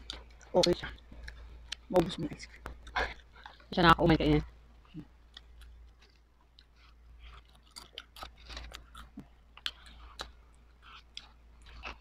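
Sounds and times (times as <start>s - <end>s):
chewing and crunching chips: 0.0s - 4.2s, 4.8s - 12.0s.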